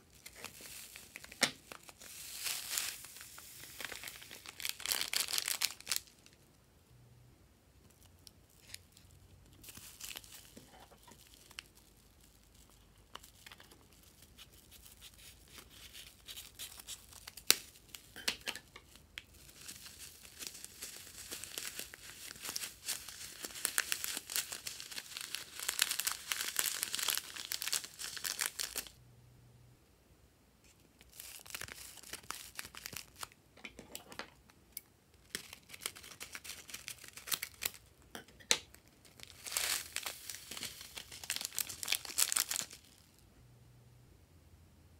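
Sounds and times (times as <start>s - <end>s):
plastic bag crinkling: 0.1s - 6.3s, 8.5s - 29.0s, 31.0s - 33.4s, 35.3s - 37.9s, 38.8s - 43.2s.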